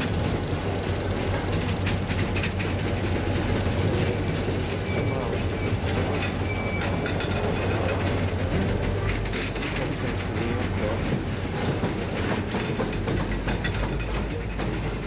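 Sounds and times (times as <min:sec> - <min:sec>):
train wheels rumbling on rail: 0:00.0 - 0:15.0
wheels clacking over rail joints: 0:00.0 - 0:15.0.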